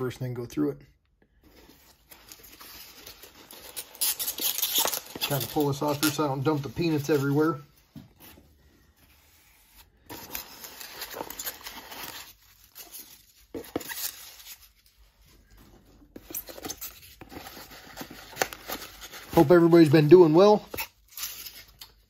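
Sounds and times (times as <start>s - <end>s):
plastic and paper crinkling: 1.3s - 22.0s.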